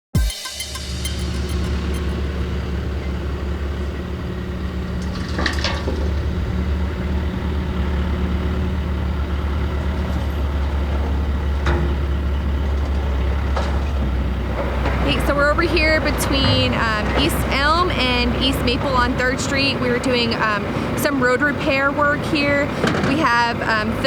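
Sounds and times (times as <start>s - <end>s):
diesel engine running: 0.2s - 24.0s.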